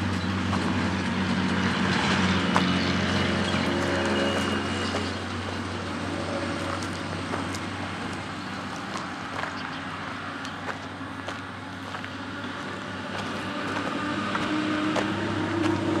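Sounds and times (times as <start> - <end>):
higher engine note: 0.0 - 8.9, 10.1 - 16.0
low engine hum: 0.0 - 16.0
road noise: 0.0 - 16.0.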